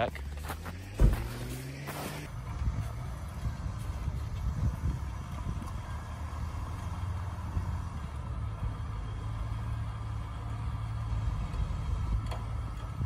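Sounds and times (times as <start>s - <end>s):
car engine rumbling under load: 0.0s - 13.0s.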